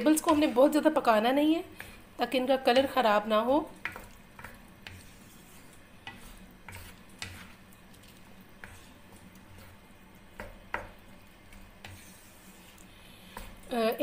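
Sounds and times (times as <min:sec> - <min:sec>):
faint sizzle: 0:00.0 - 0:14.0
spatula scraping wok: 0:00.0 - 0:14.0.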